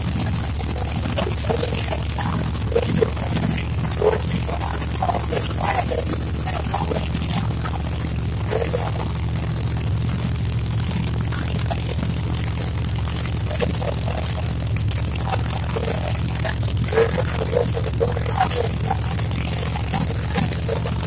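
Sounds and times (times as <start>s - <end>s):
race car engine rumbling: 0.0s - 21.0s.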